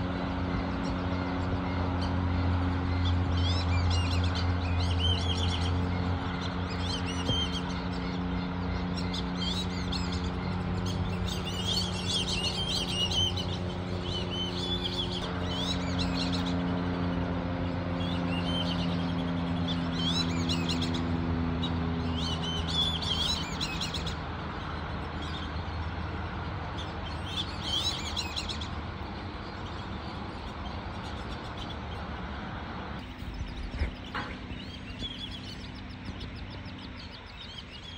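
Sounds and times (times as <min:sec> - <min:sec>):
birds chirping: 0:00.0 - 0:37.9
steady low hum: 0:00.0 - 0:37.9.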